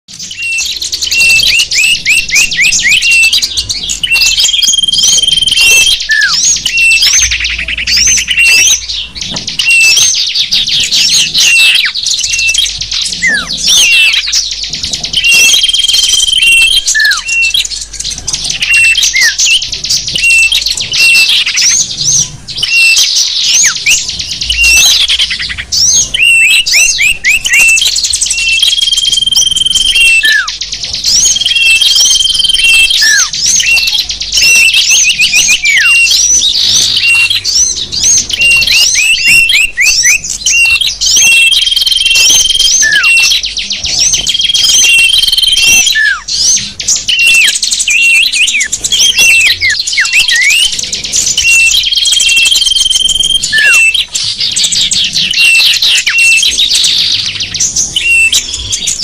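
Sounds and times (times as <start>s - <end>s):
small songbirds chirping: 0.0s - 59.0s.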